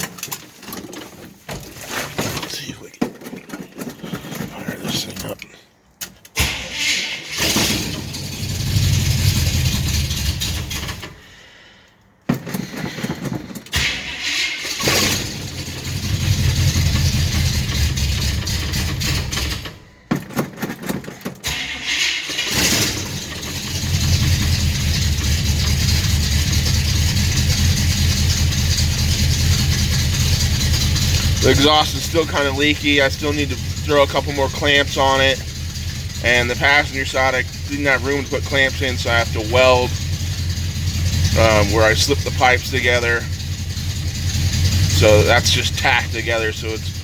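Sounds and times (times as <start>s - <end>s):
engine starting and running: 6.0s - 47.0s.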